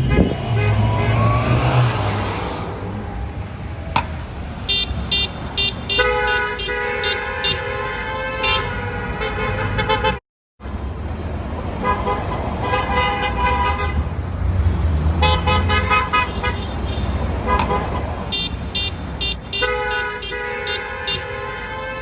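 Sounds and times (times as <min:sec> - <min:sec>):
car horns honking: 0:00.0 - 0:10.2, 0:11.7 - 0:22.0
traffic noise: 0:00.0 - 0:22.0.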